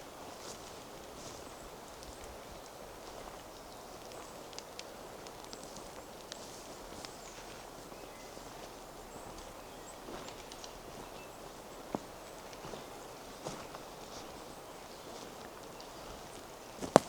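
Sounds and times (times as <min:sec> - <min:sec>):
footsteps crunching on forest path: 0:00.0 - 0:17.0.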